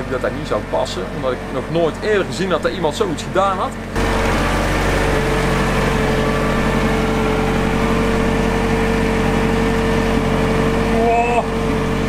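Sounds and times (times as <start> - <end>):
engine idling with whine: 0.0 - 12.0.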